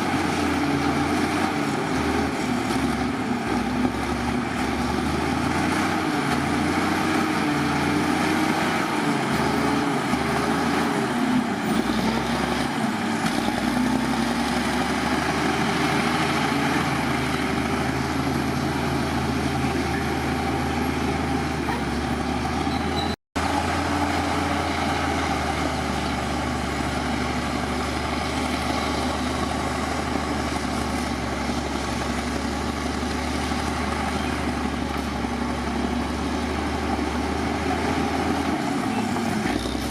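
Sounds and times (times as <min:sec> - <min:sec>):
heavy diesel engine working: 0:00.0 - 0:39.9.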